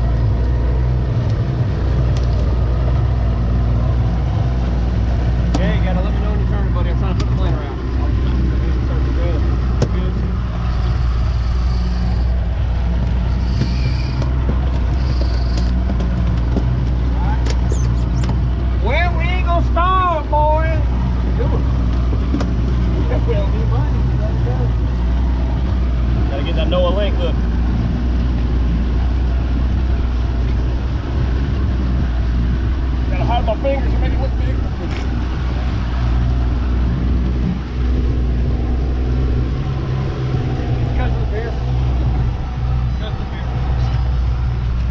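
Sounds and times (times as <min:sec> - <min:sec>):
outboard motor running: 0:00.0 - 0:44.9
water noise: 0:00.0 - 0:44.9
wind: 0:00.0 - 0:44.9.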